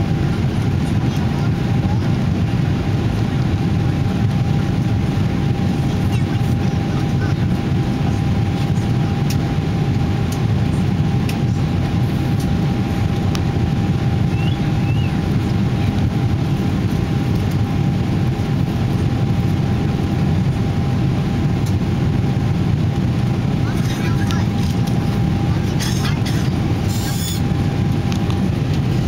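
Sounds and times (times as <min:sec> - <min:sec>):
jet engines and rushing air: 0:00.0 - 0:29.0.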